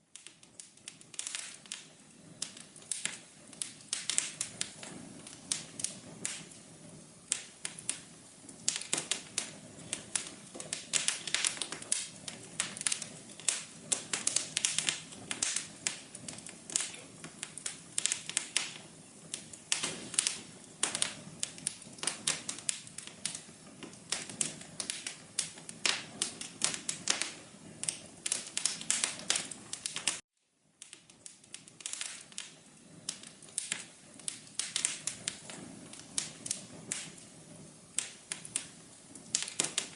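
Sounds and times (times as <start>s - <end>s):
flame rushing: 0.0s - 30.2s, 30.8s - 39.9s
wood fire crackling: 0.0s - 39.9s.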